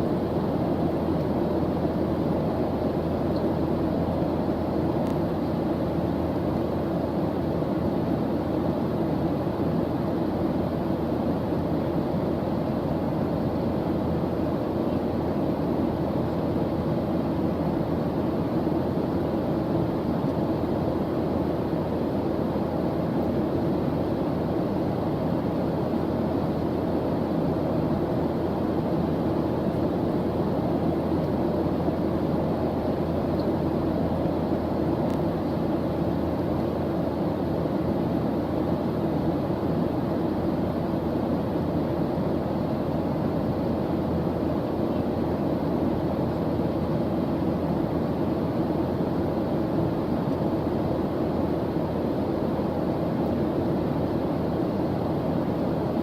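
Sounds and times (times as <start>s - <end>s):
low white noise rushing: 0.0s - 56.0s.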